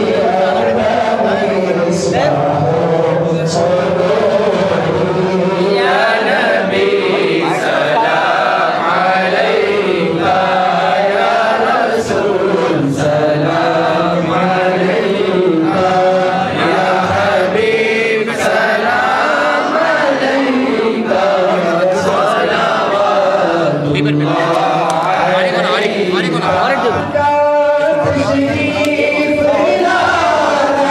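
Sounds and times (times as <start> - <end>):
voices chanting together: 0.0 - 30.9.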